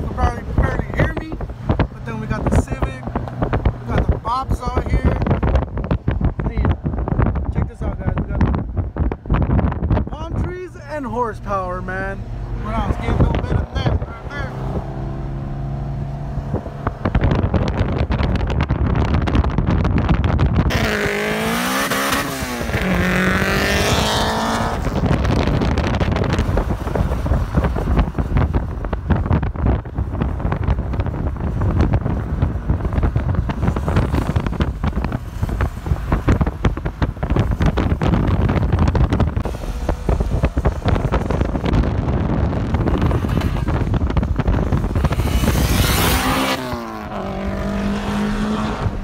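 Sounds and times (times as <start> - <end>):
car engine at high revs: 0.0 - 49.0
road noise: 0.0 - 49.0
wind buffeting: 0.0 - 49.0.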